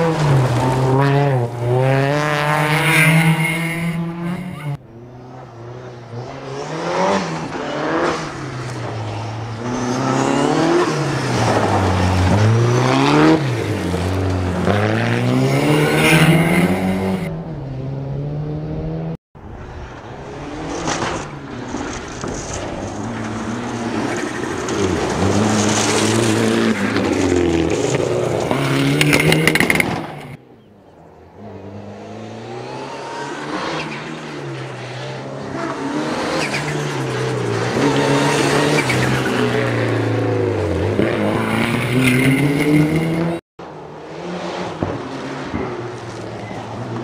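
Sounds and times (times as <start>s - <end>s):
rally car engines revving: 0.0s - 19.2s, 20.0s - 47.0s.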